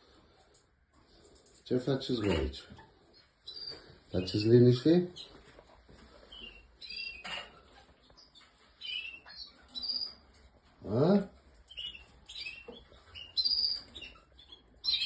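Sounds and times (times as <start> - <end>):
canaries chirping: 1.4 - 15.0.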